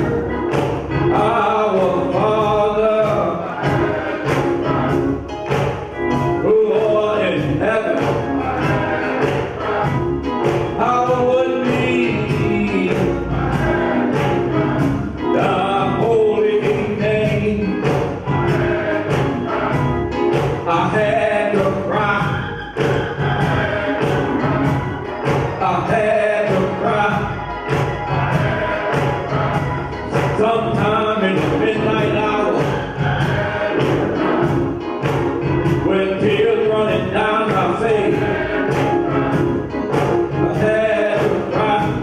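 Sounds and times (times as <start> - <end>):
drum kit beat: 0.0 - 42.0
male vocal group singing: 1.0 - 5.2, 6.4 - 42.0.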